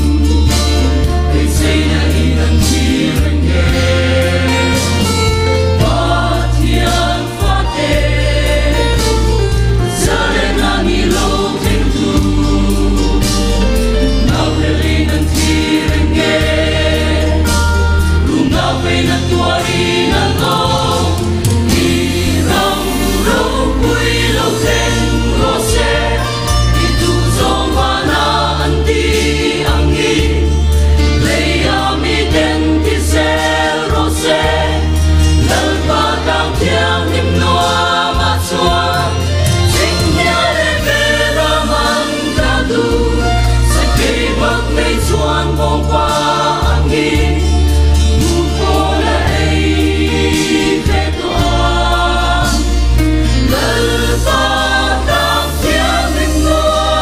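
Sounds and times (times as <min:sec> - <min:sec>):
mixed choir singing a hymn: 0:00.0 - 0:57.0
sustained low bass notes: 0:00.0 - 0:57.0.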